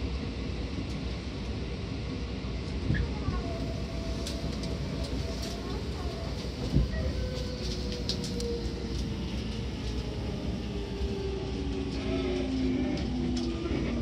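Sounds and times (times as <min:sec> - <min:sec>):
wheel and rail rumble: 0:00.0 - 0:14.0.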